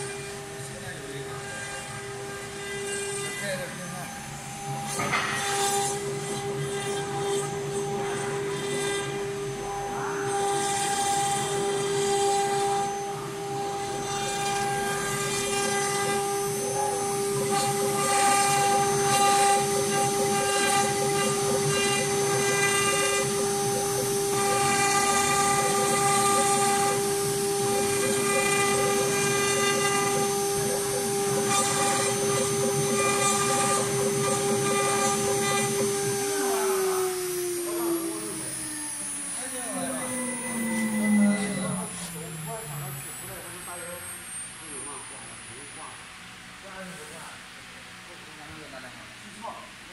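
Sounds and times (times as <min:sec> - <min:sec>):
router cutting wood: 0:00.0 - 0:45.9
router spindle whine: 0:00.0 - 0:46.6.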